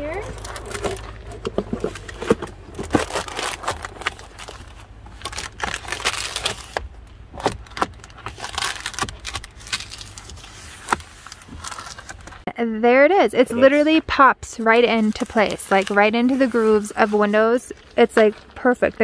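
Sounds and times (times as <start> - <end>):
foil sunshade crinkling: 0.0 - 12.5, 13.6 - 19.0.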